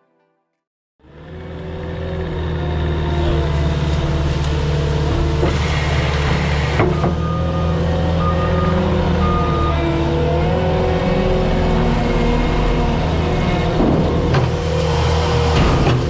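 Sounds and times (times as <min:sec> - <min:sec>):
heavy vehicle engine running: 0:01.0 - 0:16.0.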